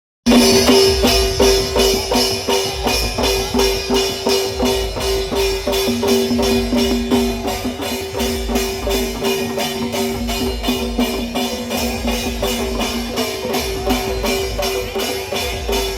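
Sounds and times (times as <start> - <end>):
fast percussion-driven music: 0.2 - 15.9
steady held notes: 0.3 - 15.9.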